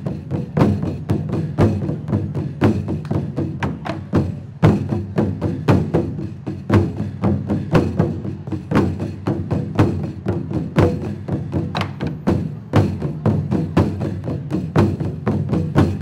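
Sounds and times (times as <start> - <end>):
taiko drums struck rhythmically: 0.0 - 16.0.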